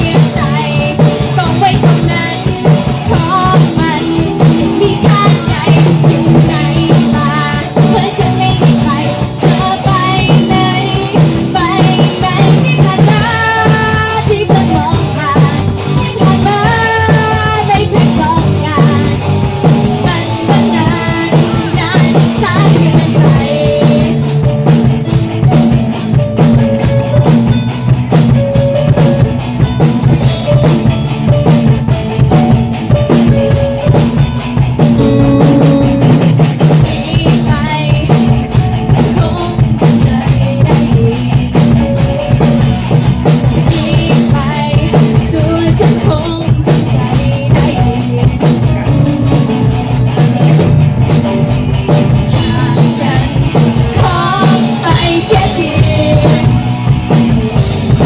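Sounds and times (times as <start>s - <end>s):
busy drum kit: 0.0s - 58.0s
live rock band playing: 0.0s - 58.0s.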